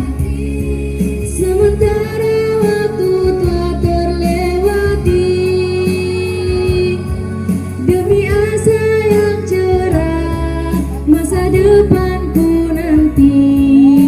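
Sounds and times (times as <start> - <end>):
instrumental accompaniment with beat: 0.0 - 14.0
woman singing: 0.0 - 14.0.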